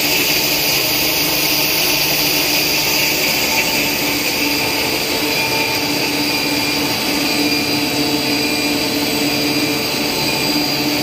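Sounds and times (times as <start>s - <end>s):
motors humming and hissing: 0.0s - 11.0s
whining machine tones: 0.0s - 11.0s.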